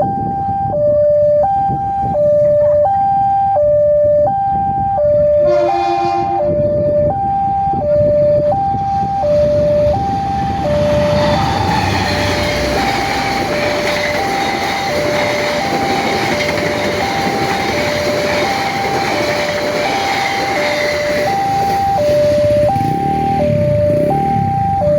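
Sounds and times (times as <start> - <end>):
passing train rumble: 0.0 - 24.9
two-tone crossing siren: 0.0 - 24.9.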